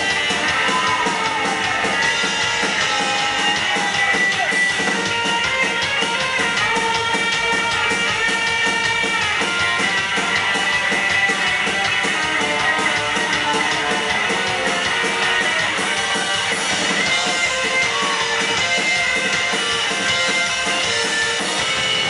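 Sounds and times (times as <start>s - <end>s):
electric guitar: 0.0s - 22.0s
rockabilly band playing live: 0.0s - 22.0s.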